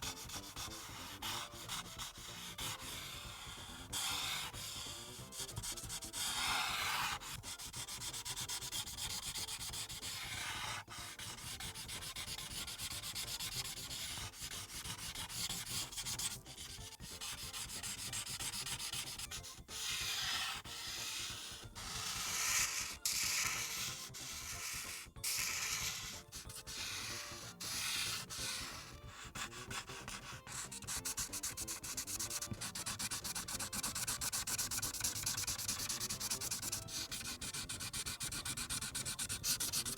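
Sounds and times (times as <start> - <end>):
felt marker rubbing on paper: 0.0 - 39.9.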